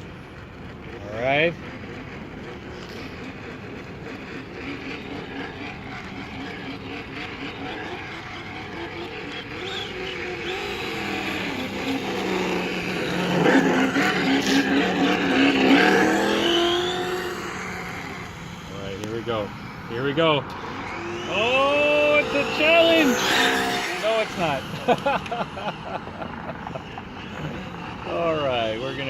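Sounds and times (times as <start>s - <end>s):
electric motor whining: 2.2s - 29.0s.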